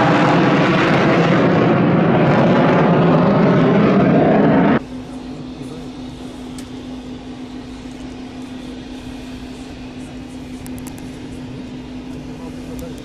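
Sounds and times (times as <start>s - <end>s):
helicopter engines and rotors humming: 0.0s - 13.0s.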